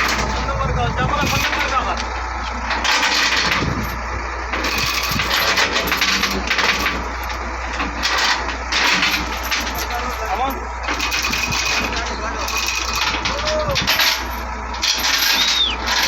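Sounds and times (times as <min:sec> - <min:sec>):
wheel loader diesel engine: 0:00.0 - 0:16.0.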